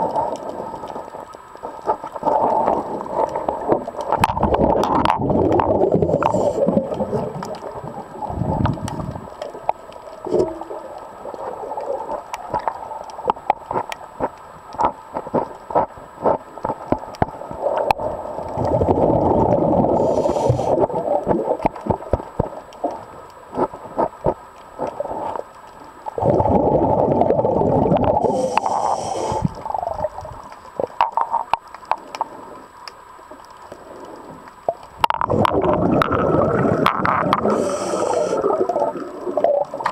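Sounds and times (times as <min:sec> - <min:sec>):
underwater crackling clicks: 0:00.0 - 0:26.5, 0:27.1 - 0:39.9
underwater bubbling: 0:00.0 - 0:39.9.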